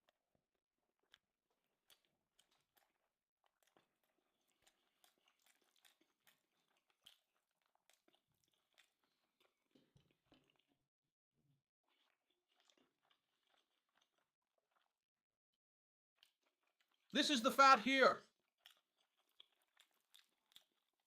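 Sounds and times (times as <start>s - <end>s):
person chewing and crunching: 0.9s - 10.8s, 11.8s - 15.0s, 16.2s - 21.0s.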